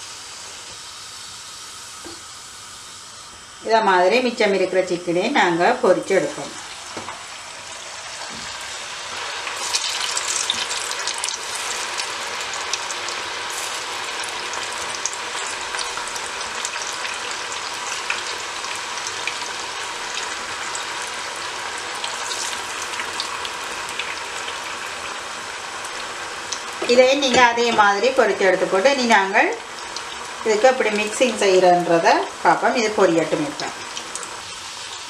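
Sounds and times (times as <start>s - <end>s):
chicken deep-frying in hot oil: 0.0s - 35.0s.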